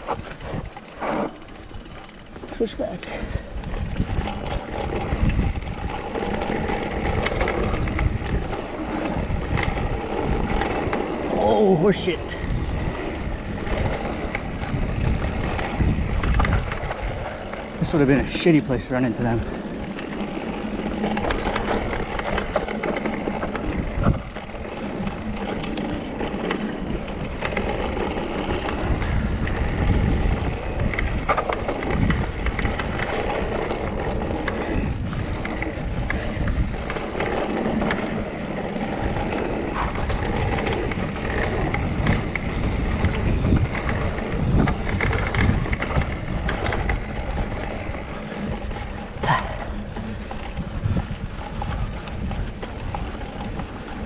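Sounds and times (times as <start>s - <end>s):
bike rattling over bumps: 0.0s - 54.0s
bike tyres rolling on dirt: 0.0s - 54.0s
wind rumble on microphone: 0.0s - 54.0s.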